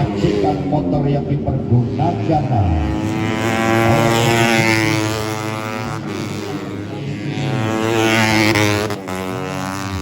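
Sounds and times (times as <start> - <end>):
motorcycles passing at high revs: 0.0 - 10.0.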